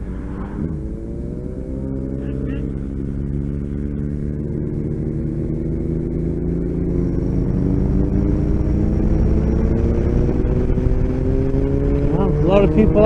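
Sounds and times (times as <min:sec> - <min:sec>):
motorcycle engine running: 0:00.0 - 0:13.0
road rumble: 0:00.0 - 0:13.0
wind: 0:00.0 - 0:13.0.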